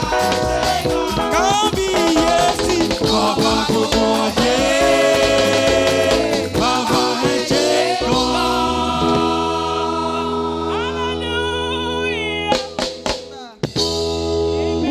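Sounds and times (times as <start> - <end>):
gospel band and singers: 0.0 - 14.9.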